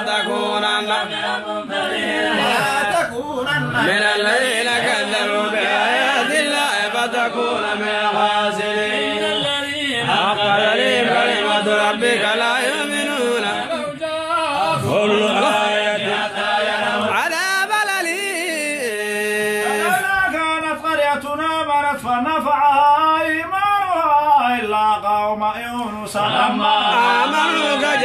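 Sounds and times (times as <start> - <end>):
men chanting together: 0.0 - 21.3, 25.8 - 28.0.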